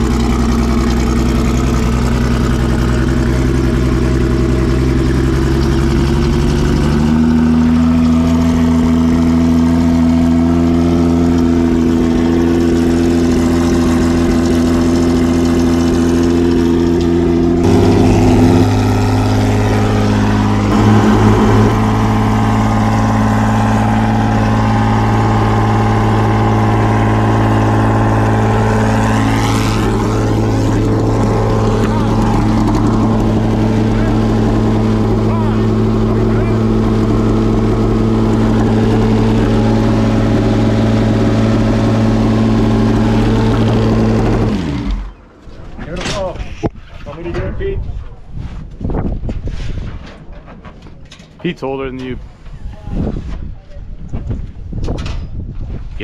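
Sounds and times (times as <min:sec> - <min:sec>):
racing engine idling: 0:00.0 - 0:45.2
short rising whine: 0:00.0 - 0:45.2.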